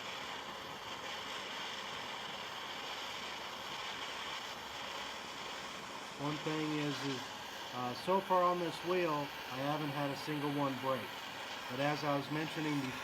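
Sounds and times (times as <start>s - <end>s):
heat gun hissing: 0.0s - 13.0s.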